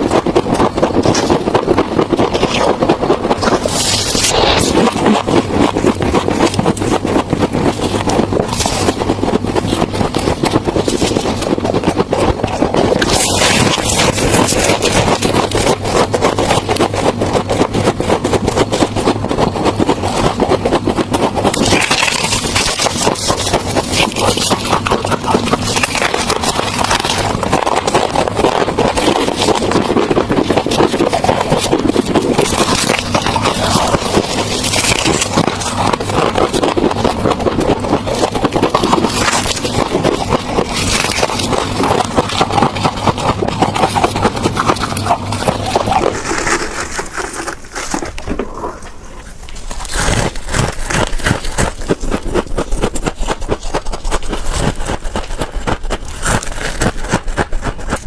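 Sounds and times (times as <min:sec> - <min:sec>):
ice being scraped and crunched: 0:00.0 - 0:58.0.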